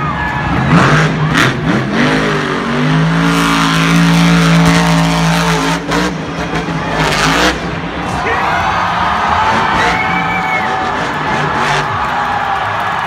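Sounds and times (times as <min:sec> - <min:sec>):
truck engine revving hard: 0:00.3 - 0:08.1, 0:09.2 - 0:12.2.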